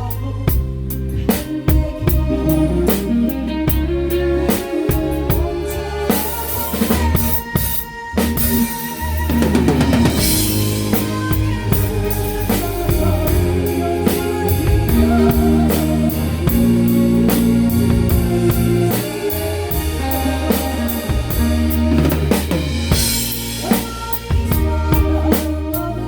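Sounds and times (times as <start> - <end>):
guitar notes: 0.0 - 25.7
bass notes: 0.0 - 26.0
drum kit beat: 0.0 - 26.0.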